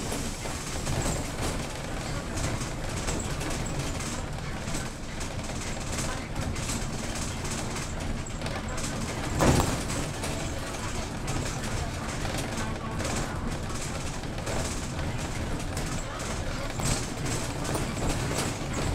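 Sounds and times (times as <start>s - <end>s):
bus engine and road noise: 0.0s - 18.9s.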